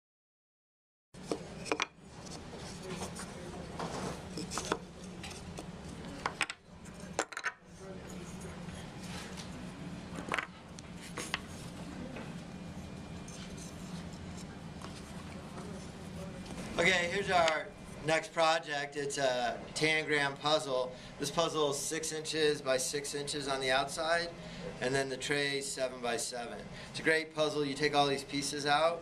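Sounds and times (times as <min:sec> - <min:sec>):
steady low hum: 0:01.2 - 0:29.0.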